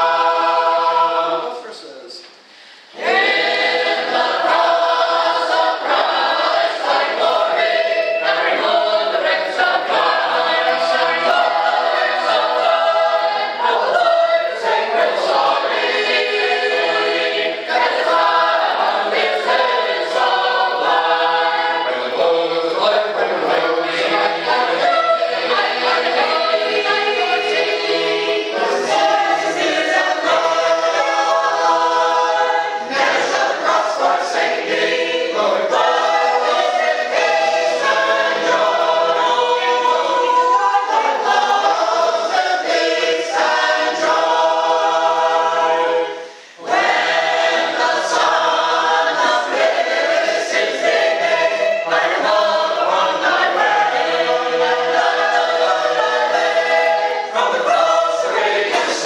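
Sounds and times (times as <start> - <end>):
mixed choir singing in parts: 0.0 - 2.0, 2.9 - 59.0.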